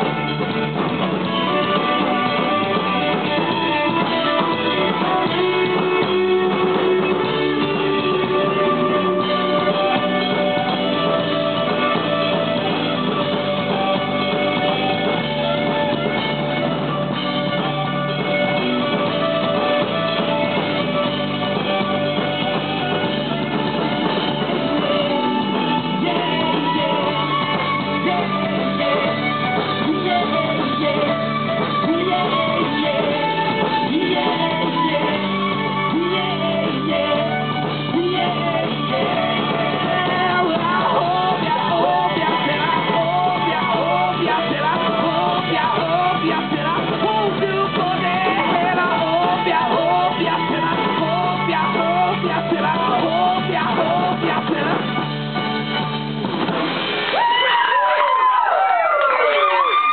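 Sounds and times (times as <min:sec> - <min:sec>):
violin: 0:00.0 - 0:55.9
drum kit: 0:00.0 - 0:59.9
guitar: 0:00.0 - 0:59.9.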